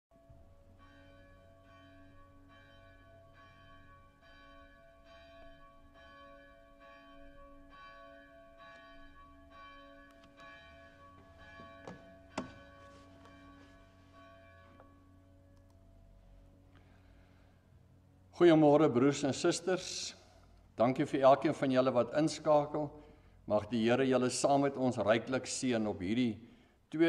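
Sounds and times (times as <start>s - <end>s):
faint church bell ringing: 0.1s - 27.0s.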